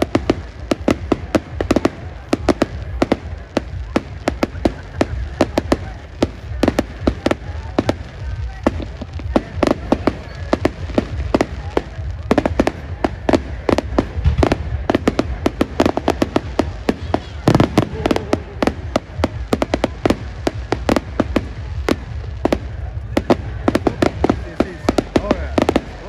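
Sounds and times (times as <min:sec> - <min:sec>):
fireworks bangs and cracks: 0:00.0 - 0:26.0
steady low rumble: 0:00.0 - 0:26.0.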